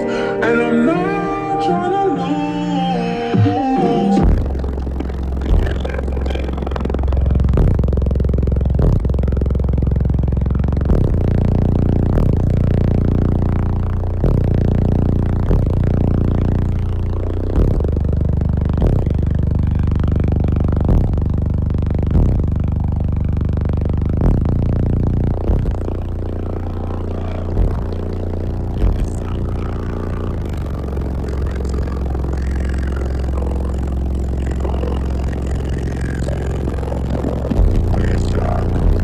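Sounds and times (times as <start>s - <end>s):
bass-heavy music from subwoofers: 0.0s - 39.0s.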